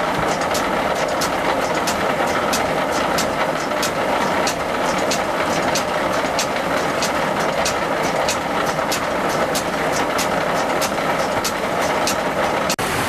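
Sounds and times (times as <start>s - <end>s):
millstone turning: 0.0s - 12.8s
rushing water: 0.0s - 13.0s.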